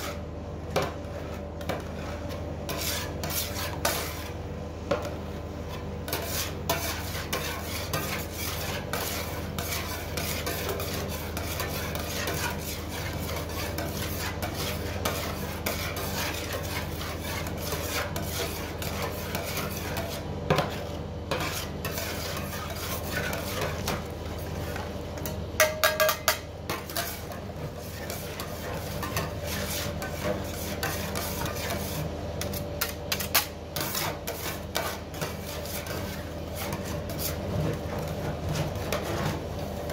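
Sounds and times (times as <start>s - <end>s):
metal spatulas scraping steel plate: 1.1s - 4.3s, 6.1s - 24.8s, 25.6s - 37.4s.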